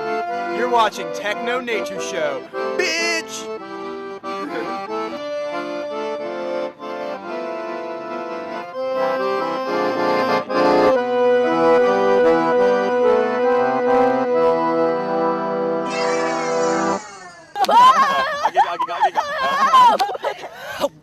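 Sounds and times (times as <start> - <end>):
accordion playing chords: 0.0 - 17.1.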